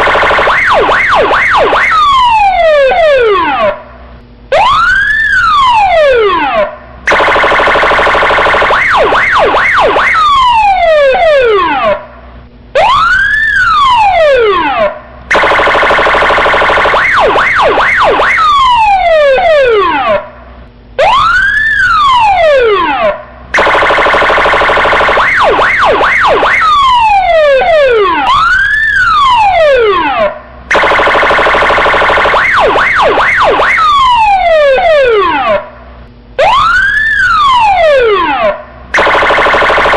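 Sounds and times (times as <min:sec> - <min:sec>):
police siren wailing: 0:00.0 - 0:12.2, 0:12.8 - 0:39.9.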